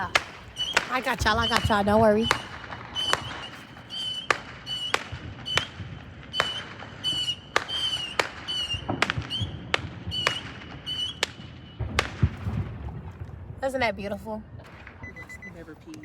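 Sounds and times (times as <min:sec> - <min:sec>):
whistling fireworks: 0:00.0 - 0:13.0
fireworks popping and cracking: 0:00.0 - 0:13.7.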